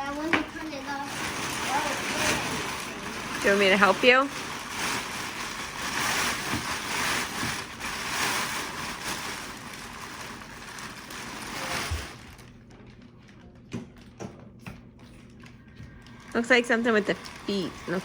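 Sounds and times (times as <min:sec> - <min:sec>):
blower fan rushing air: 0:00.0 - 0:12.6, 0:15.6 - 0:18.0.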